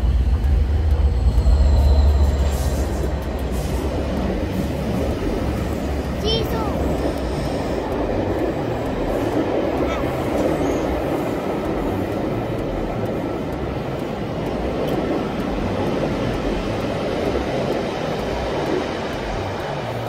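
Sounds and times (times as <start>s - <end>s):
faint clicks: 0.0s - 20.0s
wheels running on rails: 0.0s - 20.0s.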